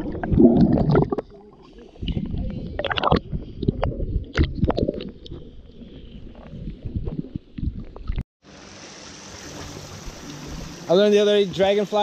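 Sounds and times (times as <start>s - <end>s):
water sloshing and gurgling: 0.0s - 10.9s
water splashes: 0.0s - 12.0s.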